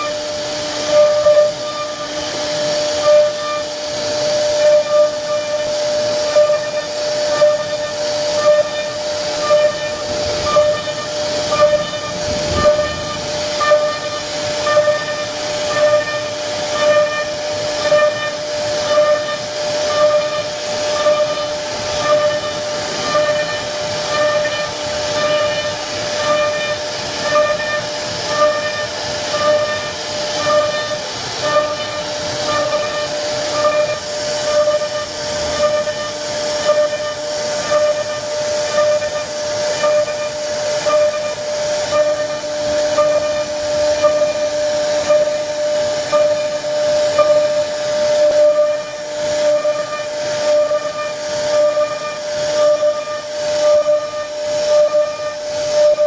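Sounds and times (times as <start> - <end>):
bit cutting wood hissing: 0.0 - 56.0
router spindle high whine: 0.0 - 56.0.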